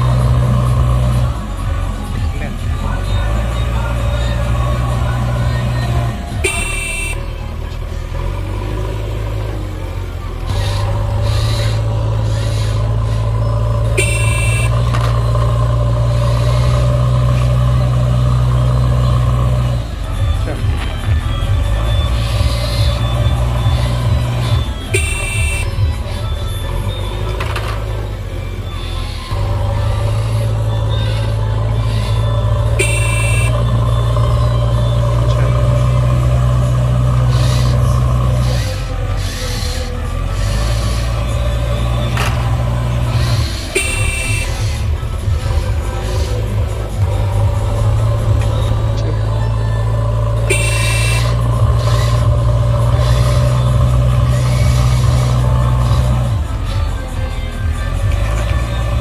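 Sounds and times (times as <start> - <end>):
heavy vehicle engine drone: 0.0 - 59.0
high-pitched horn toot: 2.4 - 9.0, 10.2 - 59.0.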